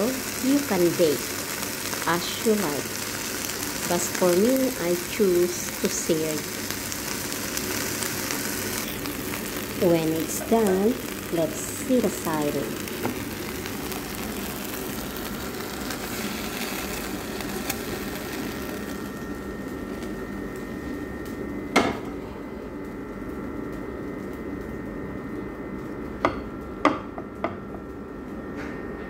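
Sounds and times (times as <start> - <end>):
chicken sizzling in a frying pan: 0.0 - 26.8.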